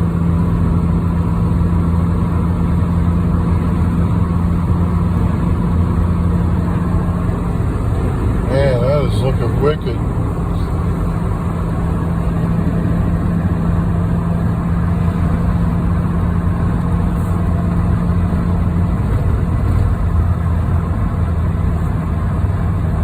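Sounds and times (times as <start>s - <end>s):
steady hum: 0.0s - 21.5s
car engine and tyre noise: 0.0s - 23.0s.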